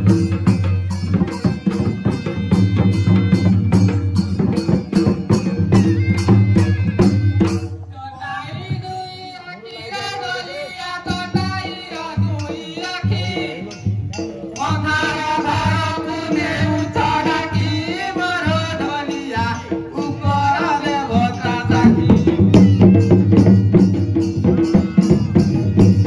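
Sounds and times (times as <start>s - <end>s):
drums beating fast rhythm: 0.0s - 26.0s.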